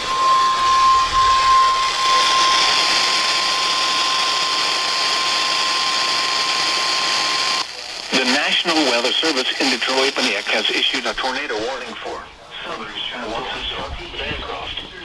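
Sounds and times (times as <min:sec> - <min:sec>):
radio static hiss: 0:00.0 - 0:15.0
steady high alarm tone: 0:00.0 - 0:15.0.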